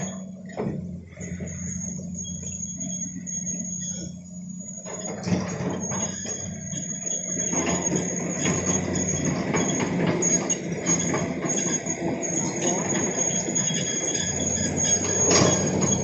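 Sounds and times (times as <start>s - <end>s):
clattering and scraping of soil and rock: 0.0s - 16.0s
excavator diesel engine running: 0.0s - 16.0s.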